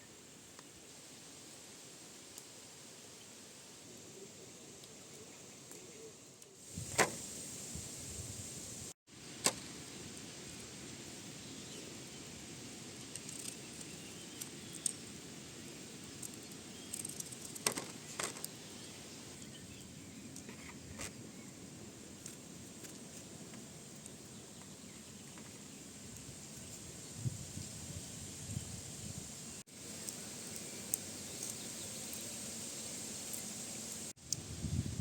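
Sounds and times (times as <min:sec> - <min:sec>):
steady high hiss: 0:00.0 - 0:35.0.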